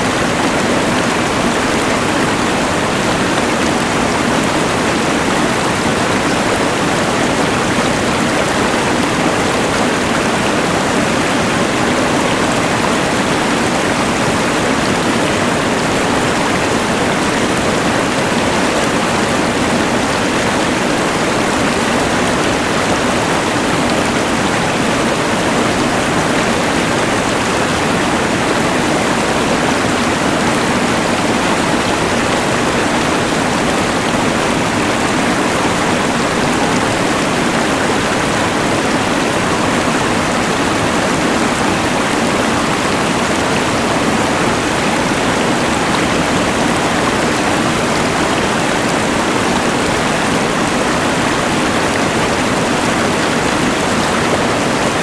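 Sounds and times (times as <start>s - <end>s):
mountain river rushing: 0.0s - 55.0s.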